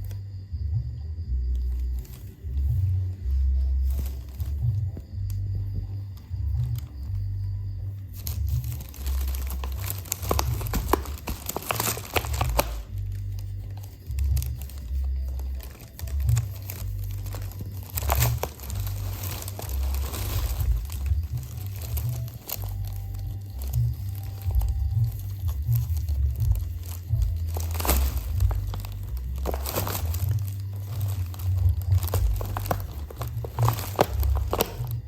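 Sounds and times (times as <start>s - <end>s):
plastic bag crinkling: 1.7s - 7.3s, 7.9s - 35.0s.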